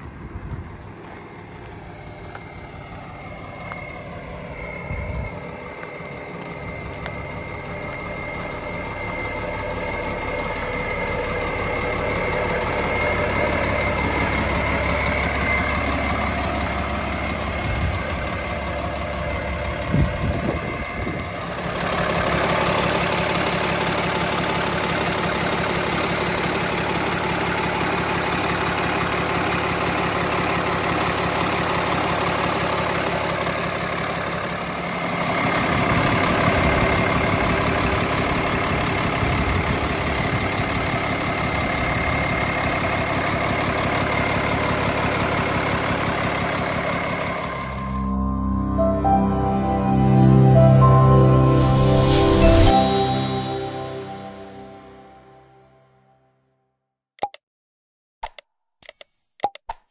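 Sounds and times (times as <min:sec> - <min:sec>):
diesel truck engine idling: 0:00.0 - 0:55.6.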